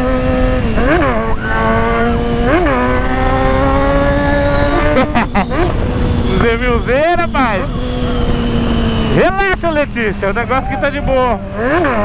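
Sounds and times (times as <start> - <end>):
wind noise on microphone: 0.0 - 9.7
motorcycle engine accelerating: 0.0 - 12.0.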